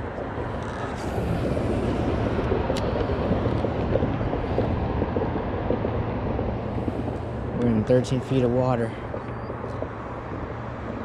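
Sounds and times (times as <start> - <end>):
low rough outdoor rumble: 0.0 - 11.0.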